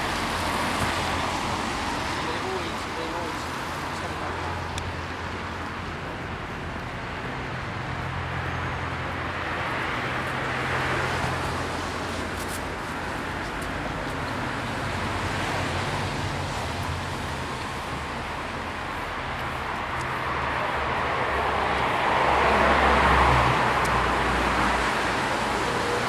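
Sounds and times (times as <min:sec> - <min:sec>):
city street traffic: 0:00.0 - 0:26.0.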